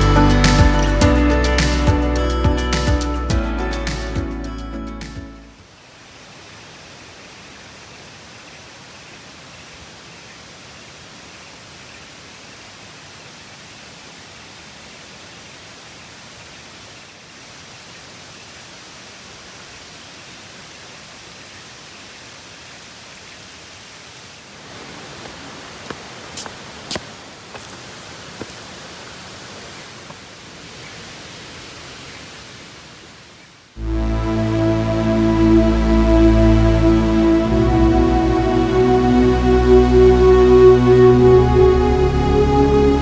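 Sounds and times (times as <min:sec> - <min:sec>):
waterfall rushing: 0:05.6 - 0:43.0.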